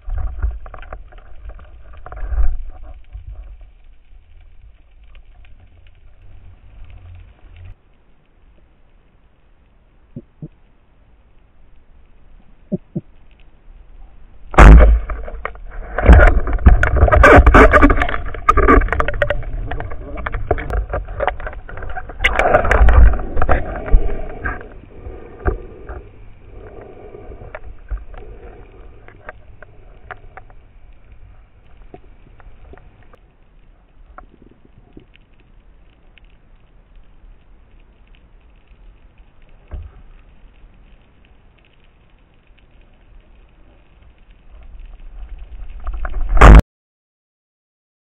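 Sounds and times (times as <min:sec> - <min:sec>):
rushing water underwater: 0:00.0 - 0:08.7, 0:11.3 - 0:46.6.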